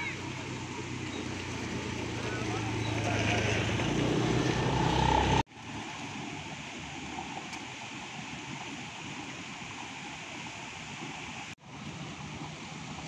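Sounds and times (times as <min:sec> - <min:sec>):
rushing outdoor ambience: 0:00.0 - 0:13.0.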